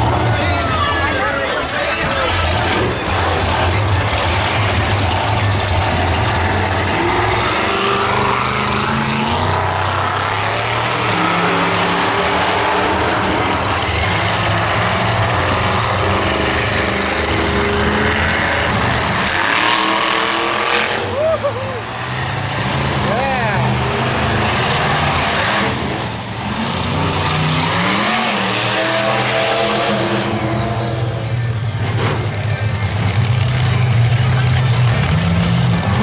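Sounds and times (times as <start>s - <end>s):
loud vehicle engines revving: 0.0s - 36.0s.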